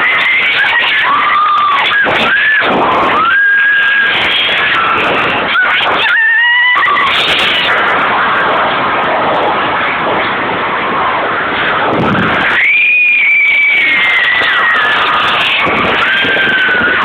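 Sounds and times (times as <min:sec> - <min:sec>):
high held screams: 0:00.0 - 0:08.6, 0:11.3 - 0:17.0
crowd screaming and cheering: 0:00.0 - 0:17.0.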